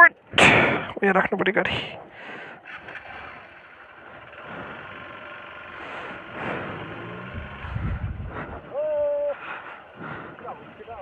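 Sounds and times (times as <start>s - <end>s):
motorcycle engine idling: 1.7s - 11.0s.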